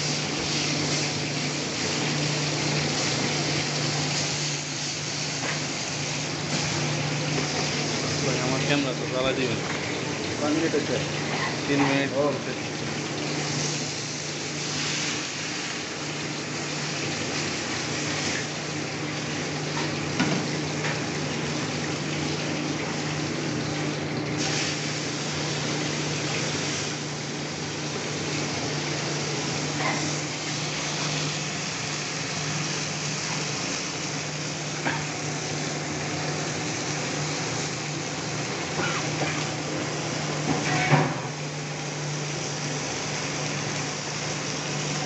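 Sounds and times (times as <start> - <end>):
meat sizzling in a grill pan: 0.0 - 45.0.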